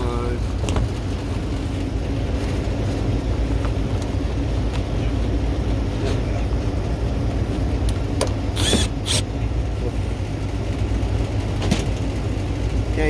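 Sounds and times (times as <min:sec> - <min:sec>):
machinery hum and rumble: 0:00.0 - 0:13.0.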